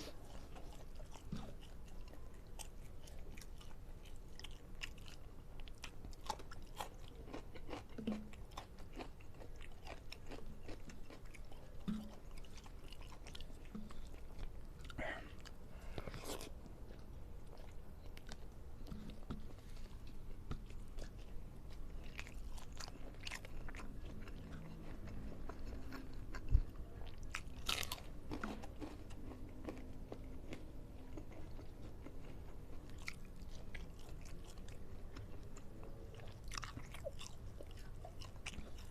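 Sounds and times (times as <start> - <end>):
person chewing with mouth clicks: 0.0 - 38.9.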